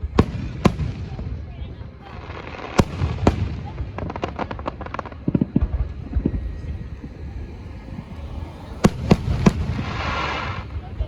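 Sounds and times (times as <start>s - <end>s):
loud firework bangs: 0.0s - 7.3s, 8.5s - 11.0s
fireworks pops and crackles: 0.0s - 7.6s, 8.5s - 11.0s.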